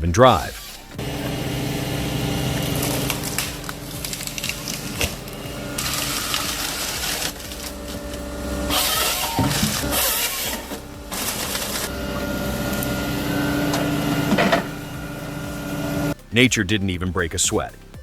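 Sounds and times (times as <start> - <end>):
harvester engine running: 0.6 - 16.2
loud rush of noise: 0.9 - 16.2
wood cracking and splintering: 1.0 - 16.1.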